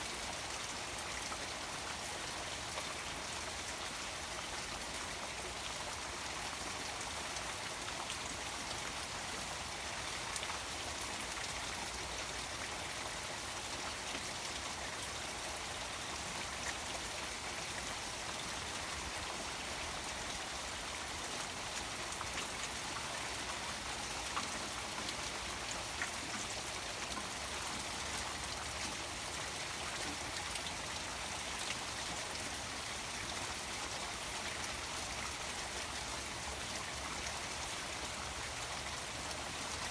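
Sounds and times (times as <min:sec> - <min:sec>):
rain falling on a pond: 0:00.0 - 0:39.9
small waterfall running: 0:00.0 - 0:39.9.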